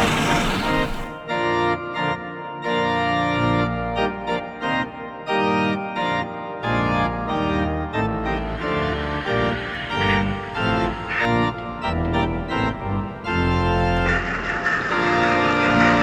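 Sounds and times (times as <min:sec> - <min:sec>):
organ-like music over bass line: 0:00.0 - 0:16.0.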